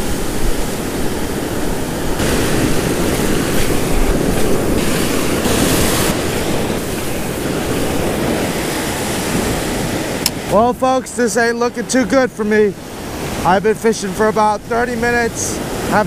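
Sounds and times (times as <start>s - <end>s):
ocean surf breaking on sand: 0.0s - 16.0s.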